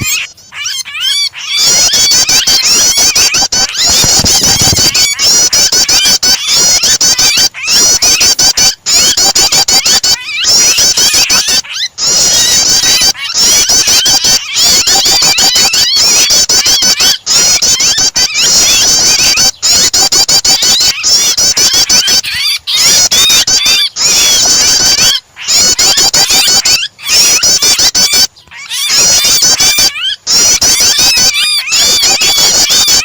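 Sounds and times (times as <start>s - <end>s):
distress cries of trapped birds: 0.0s - 33.0s
prinia bird calls: 0.0s - 33.0s.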